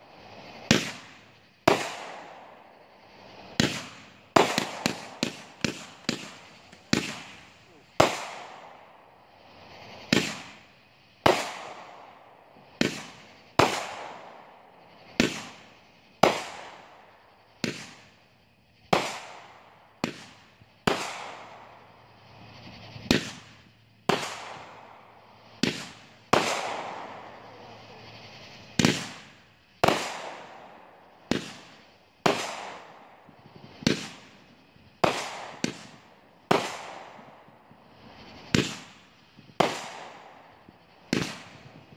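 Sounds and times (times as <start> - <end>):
fireworks bangs: 0.0 - 18.2, 18.9 - 41.9
fireworks crackle: 0.0 - 41.9.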